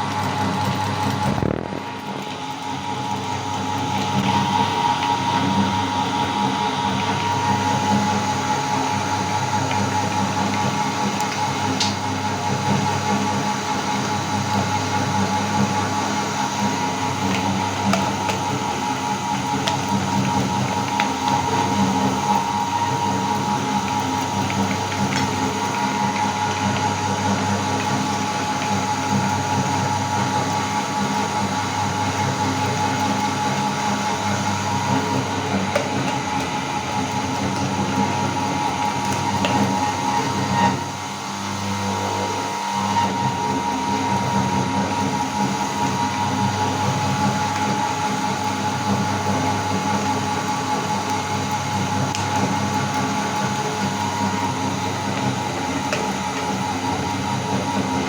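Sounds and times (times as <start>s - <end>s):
electric meat grinder running: 0.0s - 58.0s.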